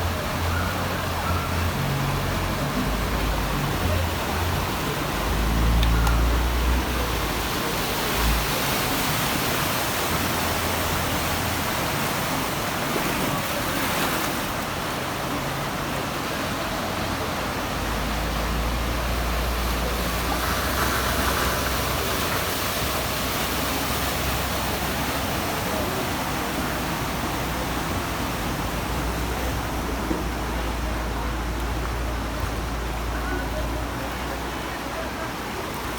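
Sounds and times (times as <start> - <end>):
flooding river rushing: 0.0 - 35.9.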